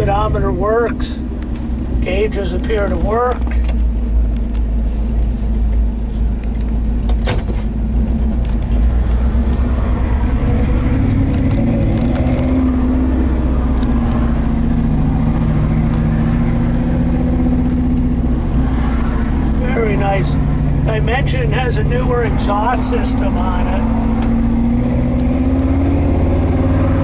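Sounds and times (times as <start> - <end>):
truck engine droning: 0.0 - 27.0.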